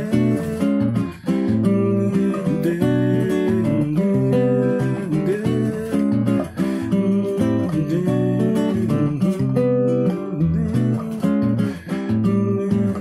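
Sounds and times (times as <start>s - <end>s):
classical guitar solo: 0.0s - 13.0s.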